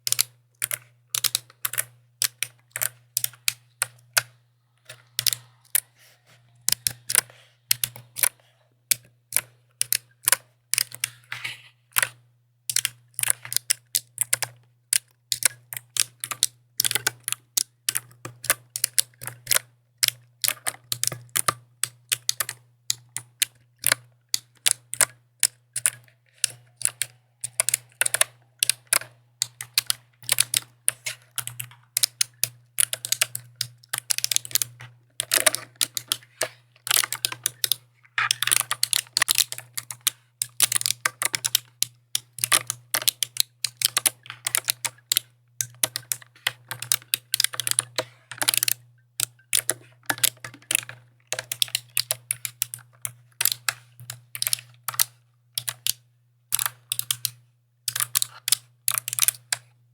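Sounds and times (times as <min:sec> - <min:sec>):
mechanical keyboard typing: 0:00.0 - 0:05.9, 0:06.7 - 0:08.3, 0:08.9 - 0:59.7.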